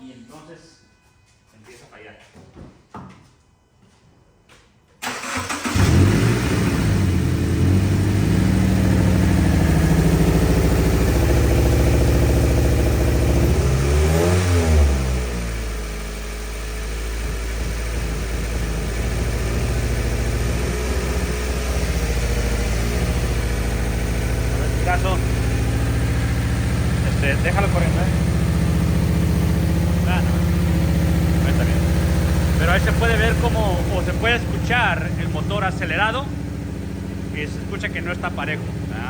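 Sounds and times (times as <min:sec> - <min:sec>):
car engine idling unevenly: 0:05.0 - 0:39.0.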